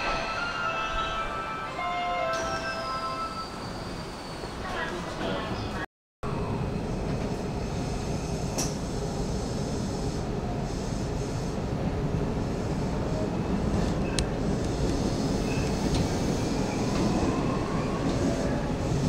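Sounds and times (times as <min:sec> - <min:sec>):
electric train wheels rumbling on rail: 0:00.0 - 0:19.0.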